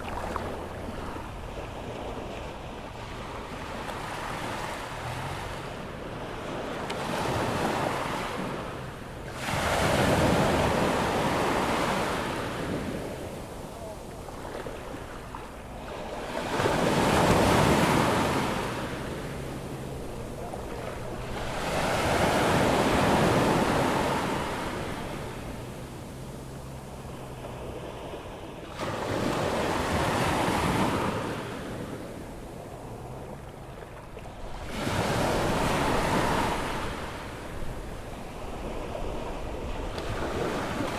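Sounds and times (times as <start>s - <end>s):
ocean waves washing up beach: 0.0s - 40.9s.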